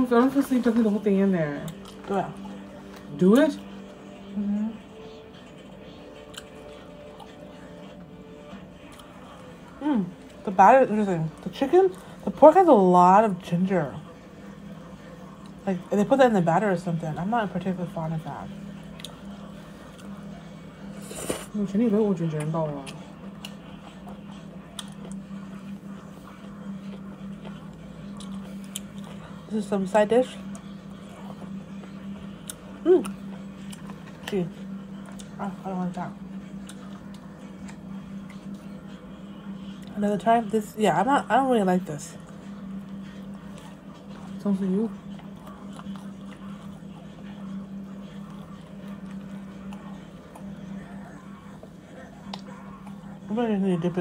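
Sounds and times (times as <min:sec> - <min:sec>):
steady low room hum: 0:00.0 - 0:54.0.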